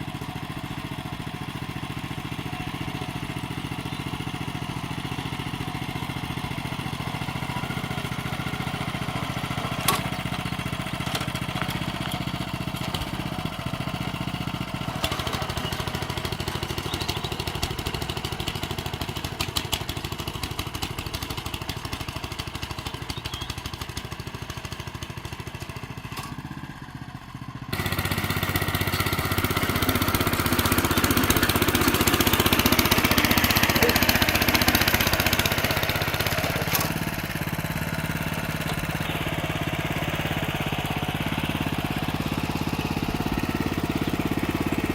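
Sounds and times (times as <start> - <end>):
tiller petrol engine running: 0.0 - 44.9.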